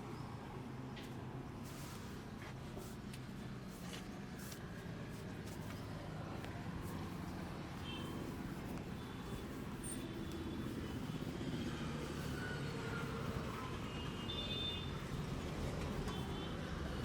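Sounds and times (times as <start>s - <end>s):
street traffic rumbling: 0.0s - 17.0s.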